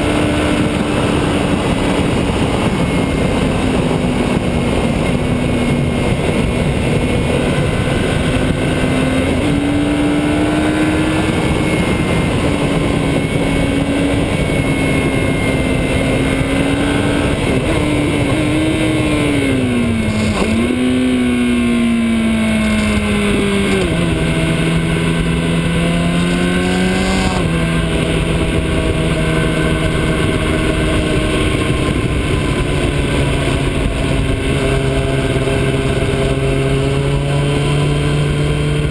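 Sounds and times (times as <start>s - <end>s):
motorcycle engine running: 0.0s - 38.9s
steady rushing noise: 0.0s - 38.9s.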